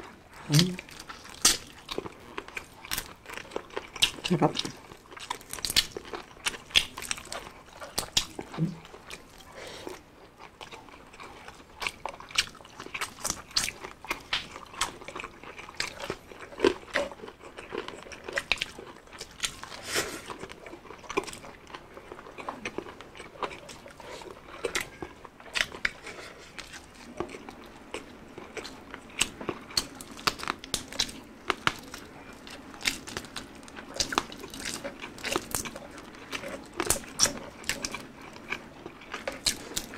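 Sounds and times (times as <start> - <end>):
wet chewing: 0.3 - 39.9
crunching crispy food: 0.5 - 39.9.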